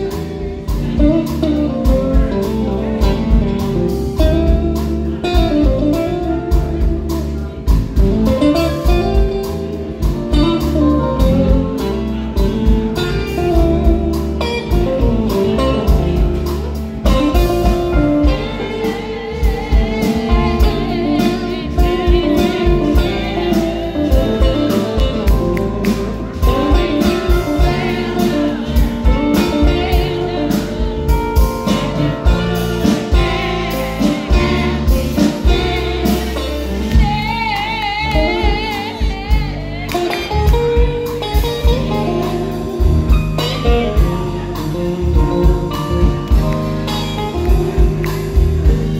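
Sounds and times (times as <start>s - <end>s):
person singing: 0.0s - 42.3s
live band playing: 0.0s - 48.9s.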